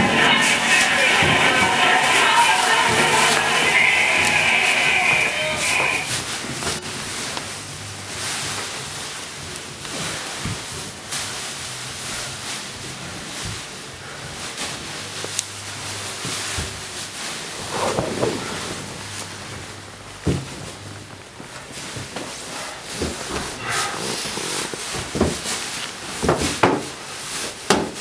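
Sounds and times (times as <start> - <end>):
plastic sheeting crinkling: 0.0 - 28.0.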